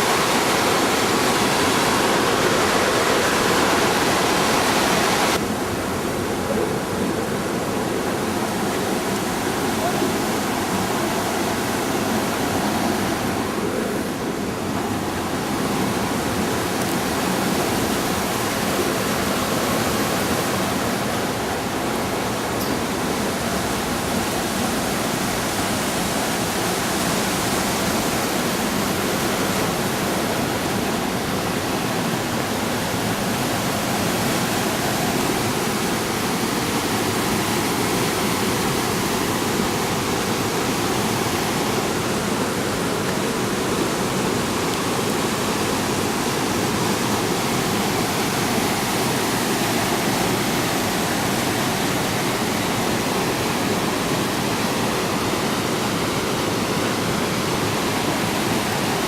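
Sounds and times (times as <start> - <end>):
fast-flowing water rushing: 0.0 - 59.0.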